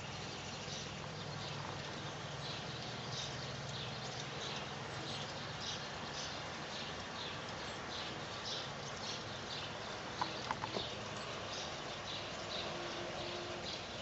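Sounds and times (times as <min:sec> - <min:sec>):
rain hissing: 0:00.0 - 0:14.0
water drips: 0:00.0 - 0:14.0.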